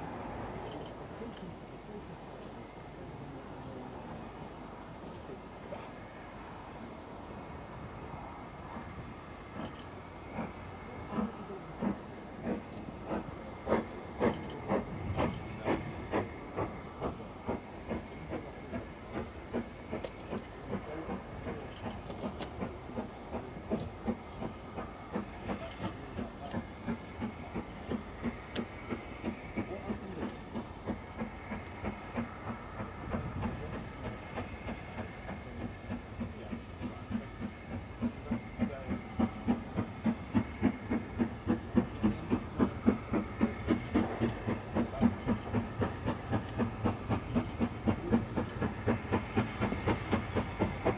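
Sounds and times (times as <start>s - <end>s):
steam locomotive exhaust beats: 0.0s - 50.9s.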